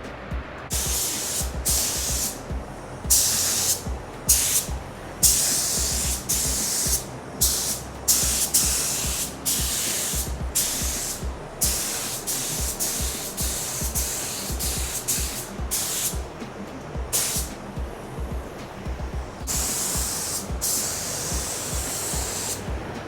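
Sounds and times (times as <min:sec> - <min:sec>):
background music: 0:00.0 - 0:23.0
paint spray gun hissing: 0:00.7 - 0:17.7, 0:19.4 - 0:22.7.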